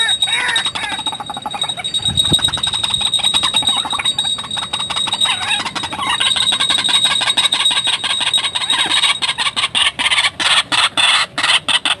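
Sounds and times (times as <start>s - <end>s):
high-pitched ringing tone: 0.0s - 10.2s.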